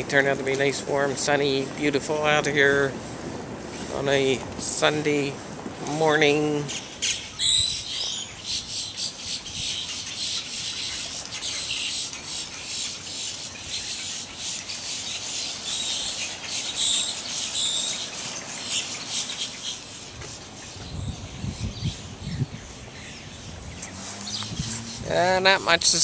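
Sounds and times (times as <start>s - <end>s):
birds chirping: 3.7s - 26.0s.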